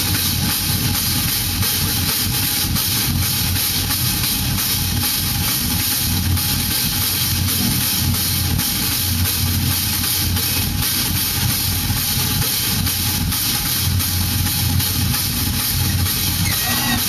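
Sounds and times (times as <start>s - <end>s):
drums knocking: 0.0s - 17.0s
static hiss: 0.0s - 17.0s.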